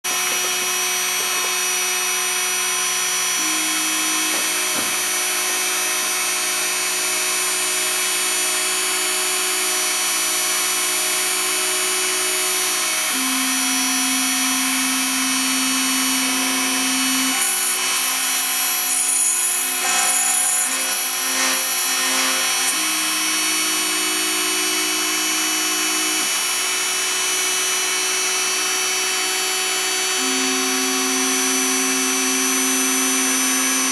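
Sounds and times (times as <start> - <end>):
rotary tool spindle whining: 0.1 - 33.9.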